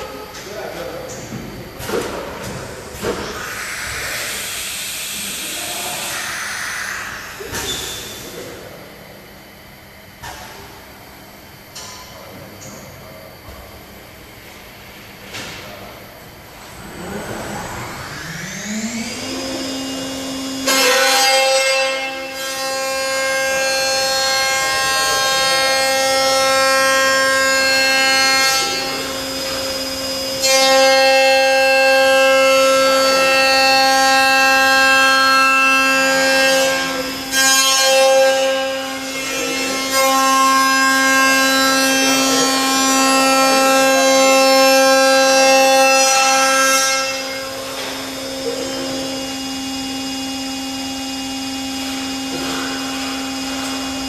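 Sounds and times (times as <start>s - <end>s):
end mill cutting metal whine: 0.0s - 10.1s, 14.4s - 54.0s.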